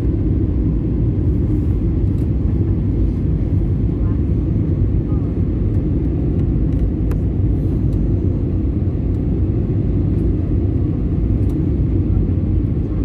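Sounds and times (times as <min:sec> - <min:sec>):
airliner cabin drone: 0:00.0 - 0:13.0.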